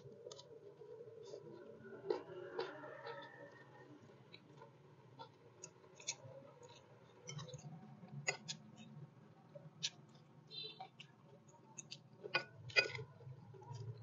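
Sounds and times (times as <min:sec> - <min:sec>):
eating clicks and crunches: 0:00.0 - 0:14.0.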